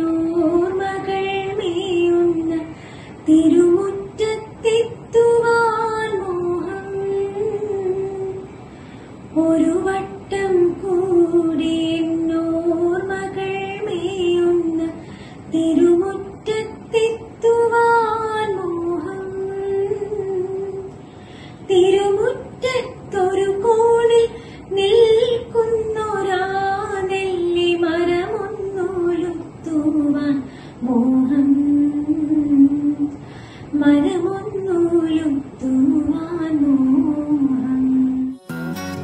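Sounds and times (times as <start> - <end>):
woman singing unaccompanied: 0.0 - 8.6, 9.3 - 21.0, 21.7 - 38.4.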